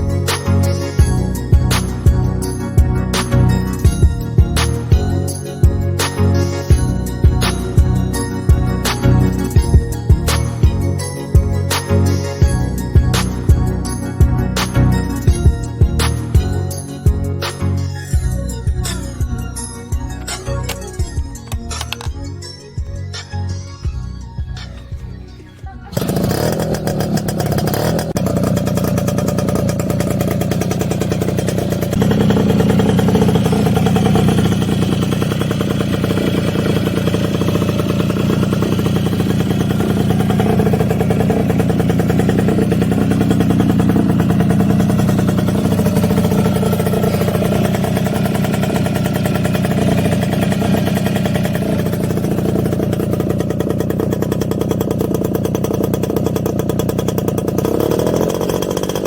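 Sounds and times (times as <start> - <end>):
two-stroke engine running: 0.0 - 23.3, 23.9 - 59.0.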